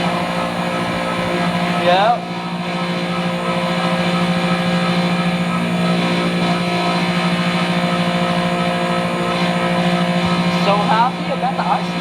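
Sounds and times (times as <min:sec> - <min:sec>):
ice machine humming: 0:00.0 - 0:12.0.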